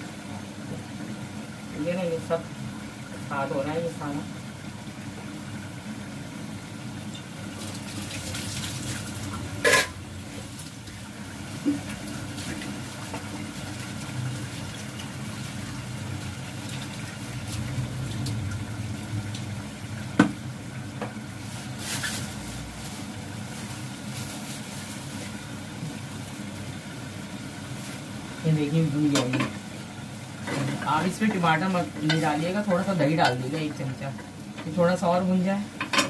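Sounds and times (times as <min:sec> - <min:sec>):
gas stove cooking noise: 0:00.0 - 0:36.0.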